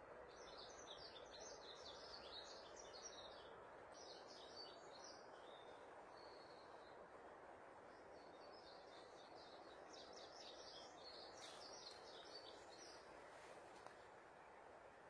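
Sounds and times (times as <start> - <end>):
faint bird chirping: 0.0 - 15.0
steady low hiss: 0.0 - 15.0.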